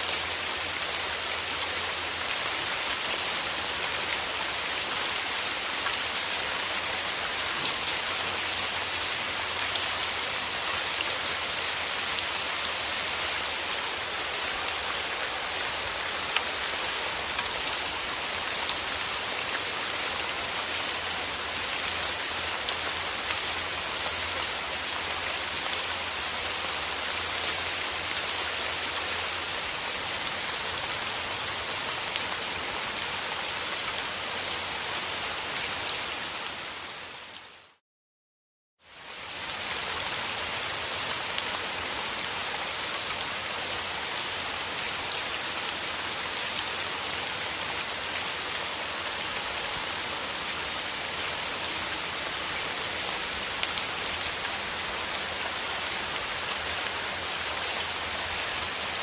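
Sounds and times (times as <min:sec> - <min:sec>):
steady rain falling: 0:00.0 - 0:37.8, 0:38.8 - 0:59.0.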